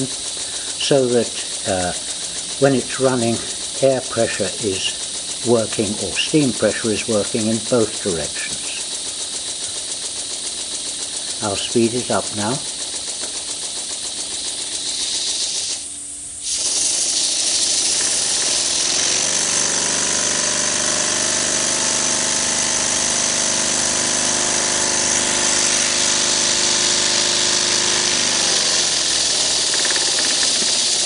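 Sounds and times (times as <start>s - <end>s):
air hiss: 0.0s - 20.1s, 23.0s - 31.0s
air engine exhaust chatter: 0.0s - 20.3s, 21.5s - 31.0s.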